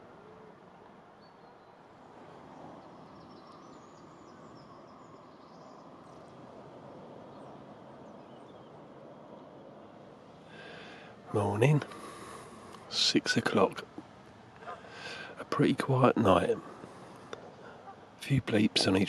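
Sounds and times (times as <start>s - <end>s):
outdoor ambience: 0.0s - 19.0s.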